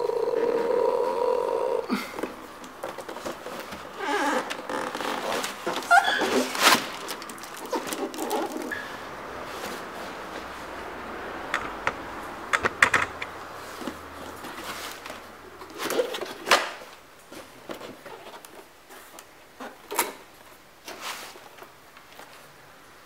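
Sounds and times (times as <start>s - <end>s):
cardboard and paper rustling: 2.2s - 11.1s, 13.1s - 22.6s.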